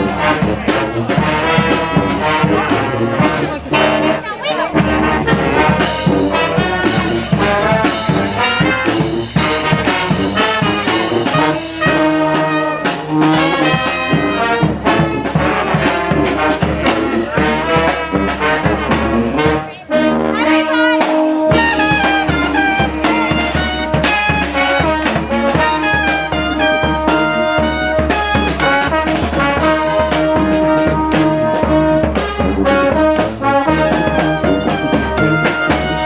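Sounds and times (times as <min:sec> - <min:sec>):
brass band playing: 0:00.0 - 0:36.0.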